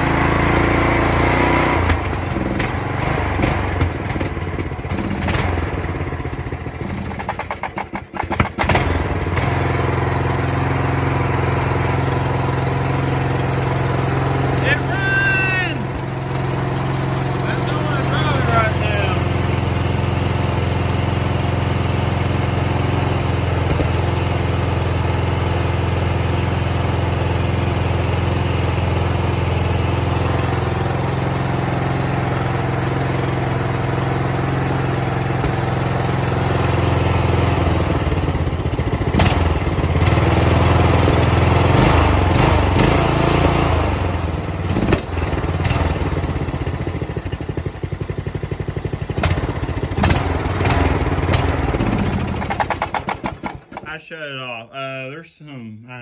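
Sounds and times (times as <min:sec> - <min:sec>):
riding lawn mower engine: 0:00.0 - 0:54.6.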